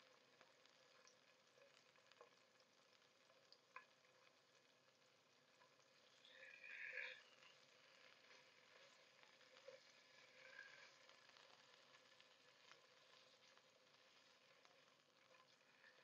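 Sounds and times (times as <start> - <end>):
fish sizzling in a pan: 0.0 - 16.0.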